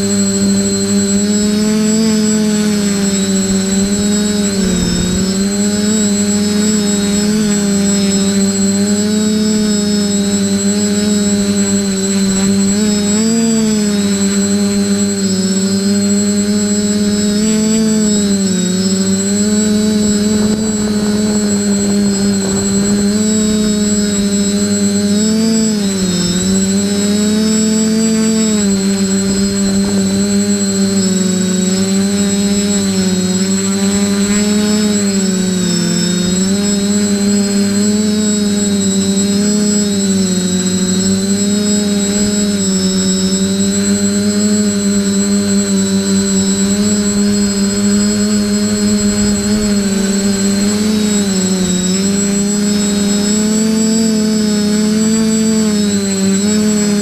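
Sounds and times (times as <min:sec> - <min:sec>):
drone motors humming: 0:00.0 - 0:57.0
high motor whine: 0:00.0 - 0:57.0.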